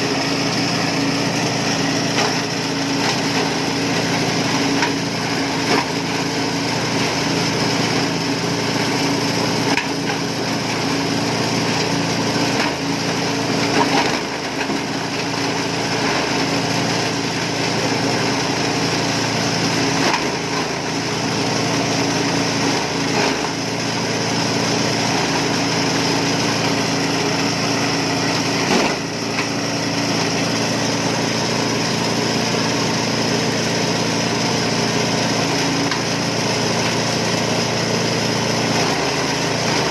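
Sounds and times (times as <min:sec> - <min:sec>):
shredder machine humming: 0:00.0 - 0:39.9.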